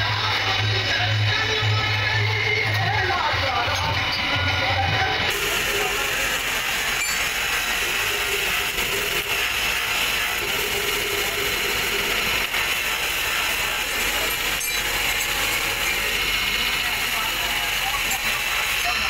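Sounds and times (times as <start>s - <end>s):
grinding wheel running: 0.0s - 19.0s
steel part grinding against wheel: 2.7s - 19.0s.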